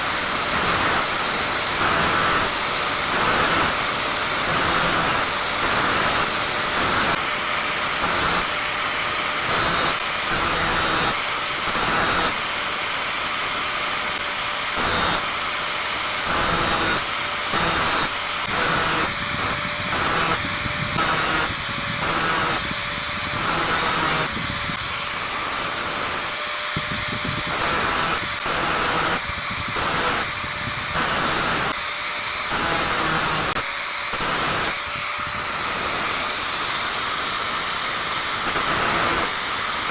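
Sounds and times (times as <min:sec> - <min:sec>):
angle grinder grinding saw teeth: 0:00.0 - 0:39.9.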